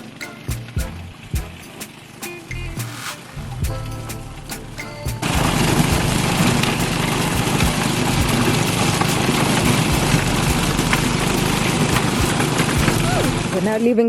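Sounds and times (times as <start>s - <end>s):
engine running: 0.0s - 13.8s
loud rushing noise: 1.6s - 13.6s.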